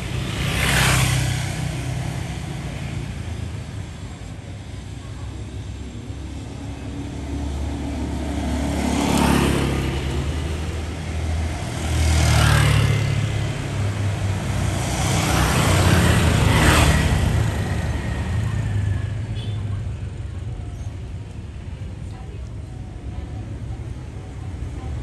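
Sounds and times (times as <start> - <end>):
motor vehicles passing by: 0.0 - 25.0.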